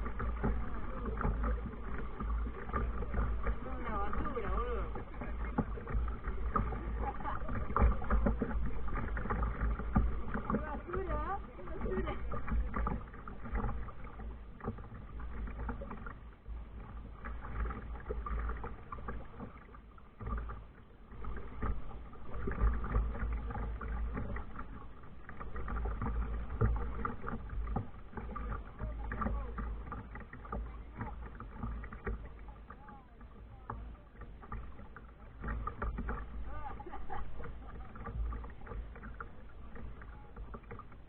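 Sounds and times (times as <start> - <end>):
steady low rumble: 0.0 - 41.0
water splashing against kayak hull: 0.0 - 41.0.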